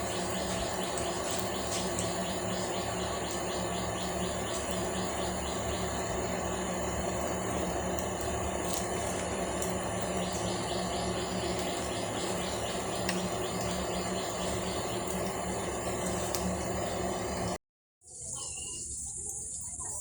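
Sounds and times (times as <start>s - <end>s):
insects chirping in high trills: 0.0s - 20.0s.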